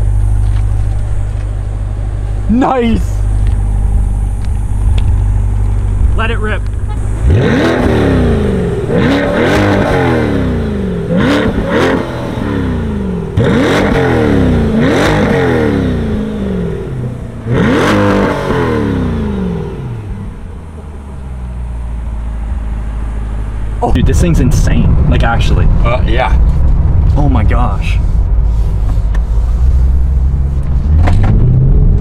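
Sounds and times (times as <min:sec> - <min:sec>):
car engine revving and idling: 0:00.0 - 0:32.0.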